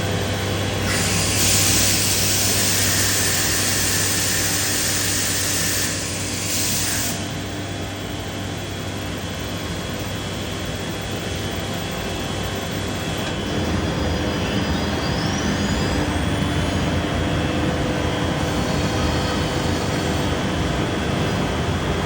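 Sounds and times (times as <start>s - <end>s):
cnc router humming: 0.0s - 22.0s.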